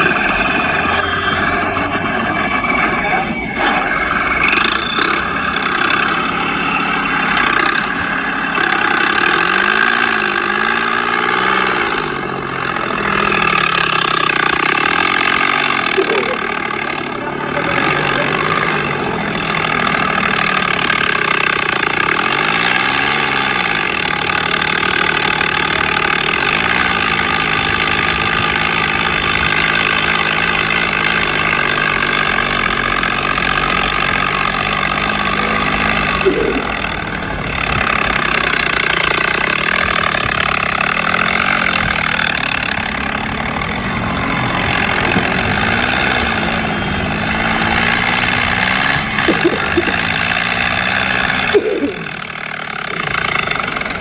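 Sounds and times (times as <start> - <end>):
tractor engine revving: 0.0 - 54.0.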